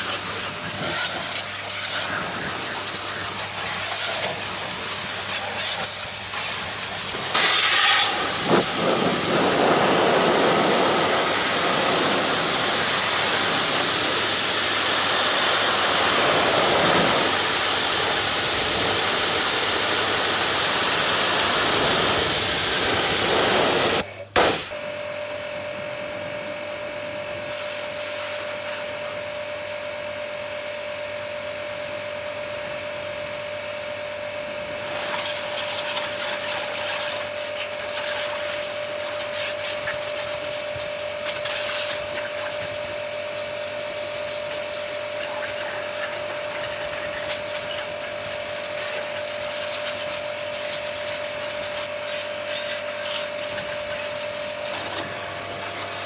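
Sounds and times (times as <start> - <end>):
hiss: 0.0 - 24.8, 27.4 - 29.2, 34.8 - 56.0
water spraying hard: 0.0 - 24.8, 35.0 - 56.0.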